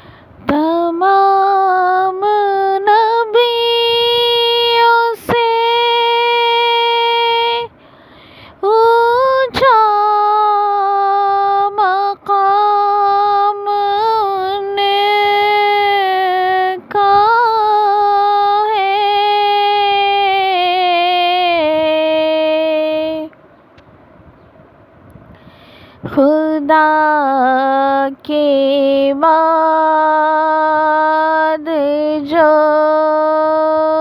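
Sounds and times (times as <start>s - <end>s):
solo voice singing unaccompanied: 0.0s - 23.4s, 26.0s - 34.0s.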